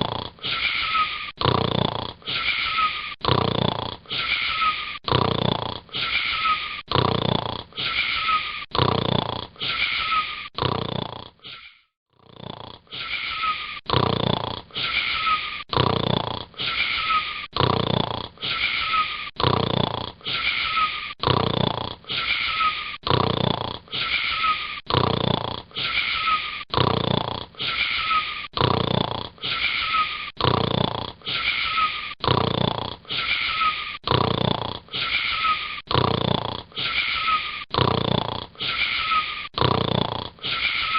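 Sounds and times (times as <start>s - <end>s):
boy snoring with whistling note: 0.0s - 40.9s.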